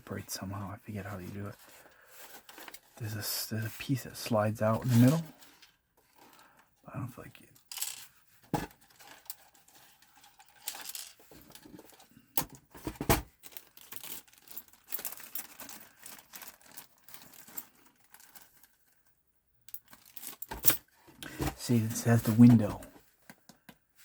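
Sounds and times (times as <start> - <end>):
plastic parts rustling: 1.0 - 19.1, 19.7 - 24.0.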